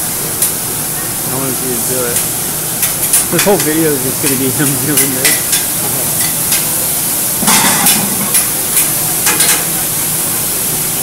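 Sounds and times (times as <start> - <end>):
food sizzling on griddle: 0.0 - 11.0.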